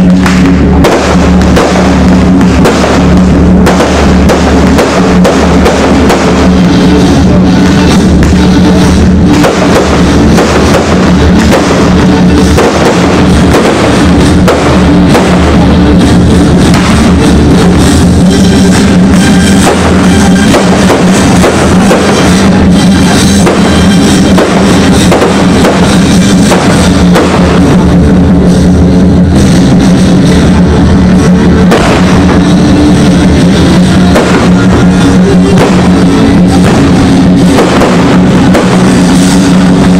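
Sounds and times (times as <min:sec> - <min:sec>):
loud music with heavy drum beat: 0:00.0 - 0:39.9.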